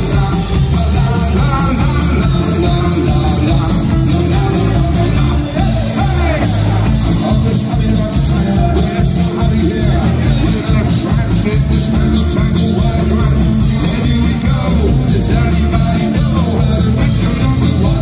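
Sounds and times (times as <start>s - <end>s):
amplified acoustic guitar: 0.0s - 18.0s
drum kit: 0.0s - 18.0s
electric bass: 0.0s - 18.0s.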